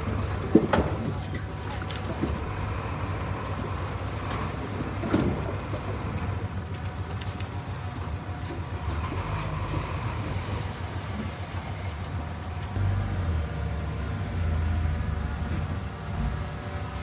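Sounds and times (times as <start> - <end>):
diesel machine droning: 0.0 - 17.0.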